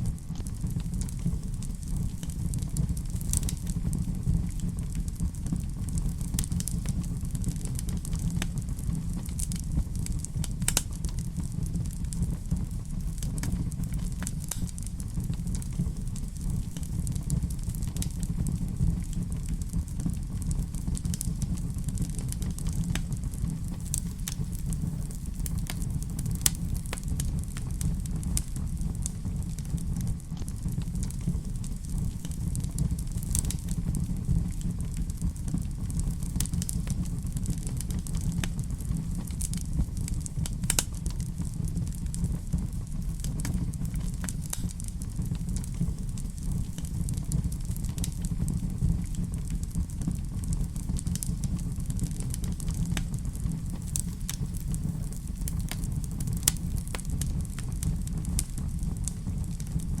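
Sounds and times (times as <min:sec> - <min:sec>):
wood fire crackling and popping: 0:00.0 - 1:00.0.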